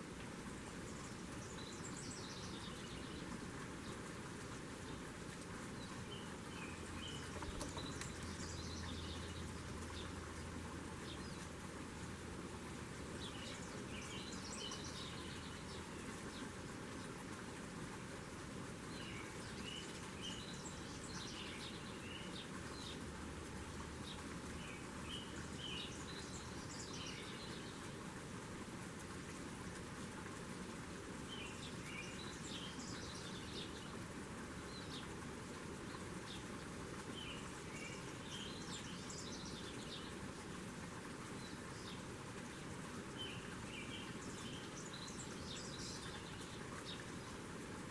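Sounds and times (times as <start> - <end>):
steady background hiss: 0.0 - 47.9
songbird singing: 0.7 - 4.1, 4.7 - 12.2, 12.8 - 17.1, 18.9 - 27.9, 31.2 - 47.4.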